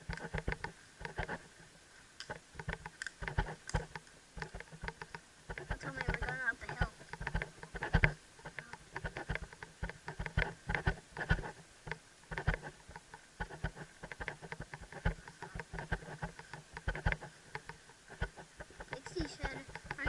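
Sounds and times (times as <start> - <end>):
camera knocking against helmet: 2.3 - 20.0.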